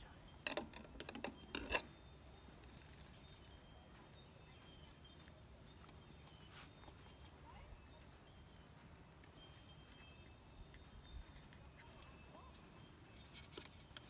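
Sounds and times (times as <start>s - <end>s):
faint high chirps: 1.2s - 14.0s.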